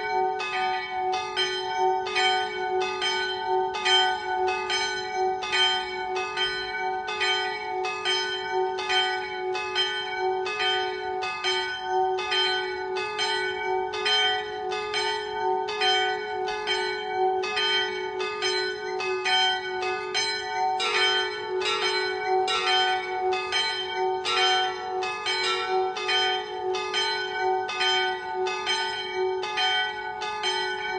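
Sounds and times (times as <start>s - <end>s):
church bells ringing: 0.0s - 30.9s.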